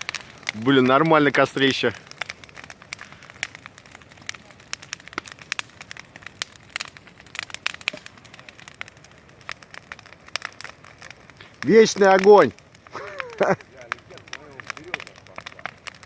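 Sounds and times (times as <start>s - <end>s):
bonfire crackling and popping: 0.0s - 16.0s
faint hiss: 0.0s - 16.0s.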